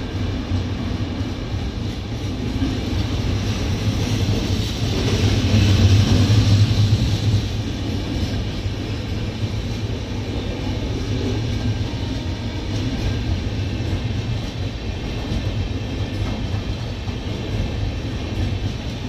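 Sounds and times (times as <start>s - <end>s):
train coaches rolling past: 0.0s - 19.0s.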